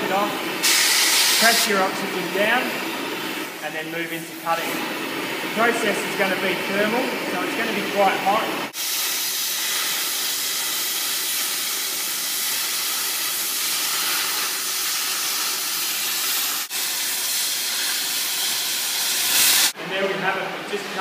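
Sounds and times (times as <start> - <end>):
cutting torch hissing: 0.0 - 19.8.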